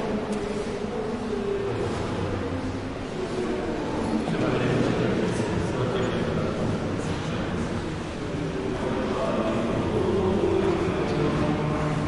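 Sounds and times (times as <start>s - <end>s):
murmur of many voices: 0.0s - 12.0s.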